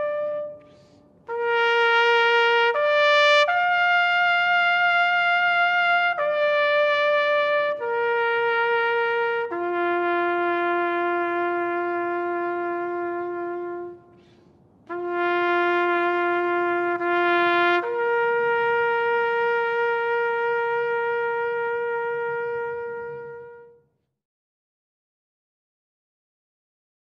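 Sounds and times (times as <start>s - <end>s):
brass horn salute call: 0.0s - 23.9s.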